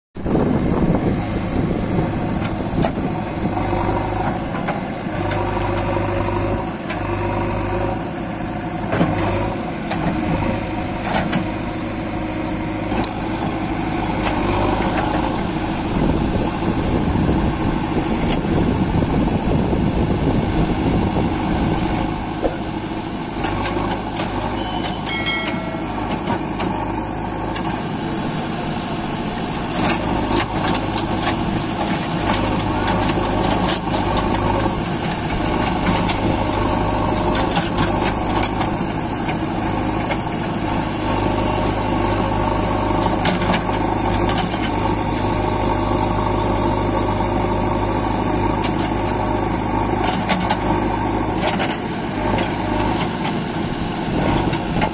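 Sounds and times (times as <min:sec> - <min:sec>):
diesel engine under load: 0:00.2 - 0:54.9.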